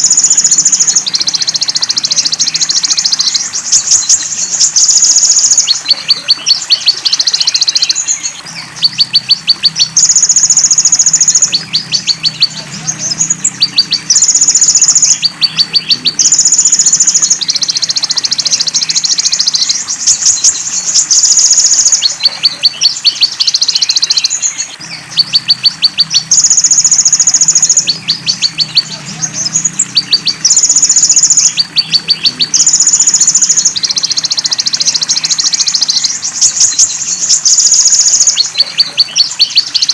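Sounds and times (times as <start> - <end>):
birdsong with ticks and trills: 0.0 - 39.9
sunbird singing: 0.0 - 39.9.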